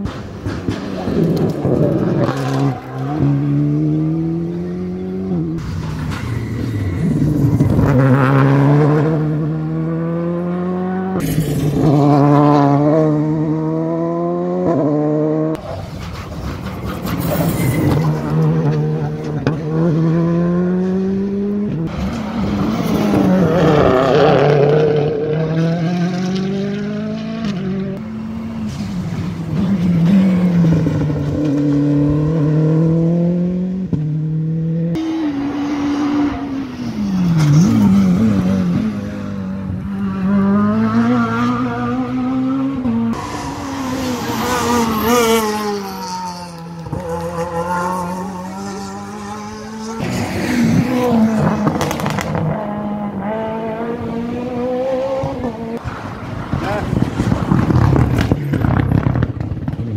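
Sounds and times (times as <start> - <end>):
rally cars at full throttle: 0.0 - 59.9.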